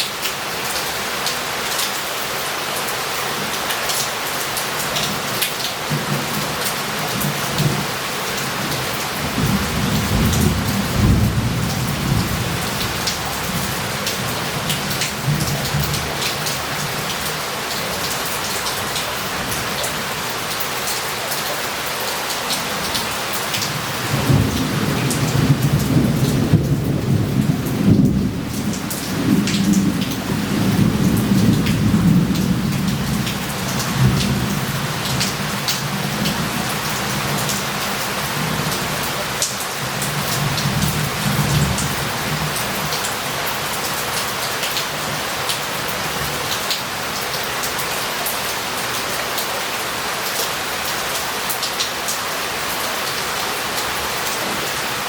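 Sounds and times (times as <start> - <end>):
heavy rain on a street: 0.0 - 55.0.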